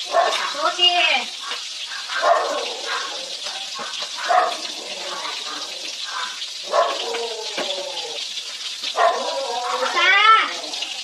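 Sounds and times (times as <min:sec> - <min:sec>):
soup bubbling at a rolling boil: 0:00.0 - 0:11.0.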